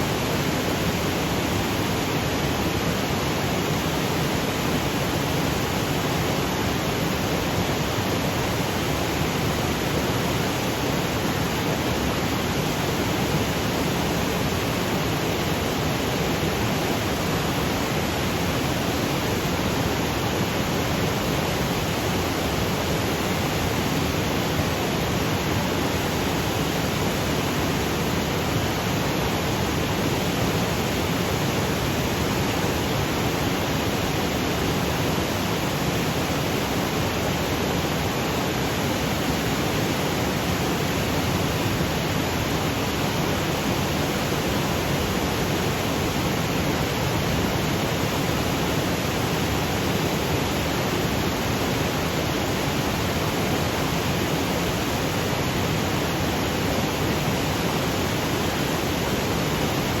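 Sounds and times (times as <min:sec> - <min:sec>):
waterfall rushing over rocks: 0:00.0 - 1:00.0.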